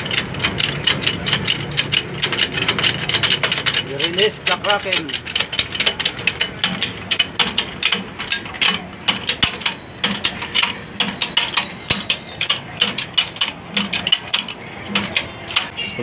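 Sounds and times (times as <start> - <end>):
hydraulic jack pump clicking: 0.0 - 15.8.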